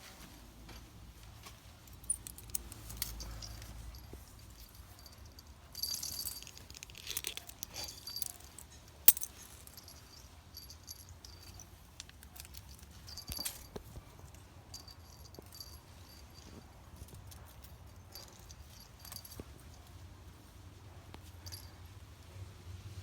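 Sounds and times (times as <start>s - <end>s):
rustling: 0.0s - 20.5s
light metallic jingling: 0.7s - 20.6s, 21.2s - 21.9s.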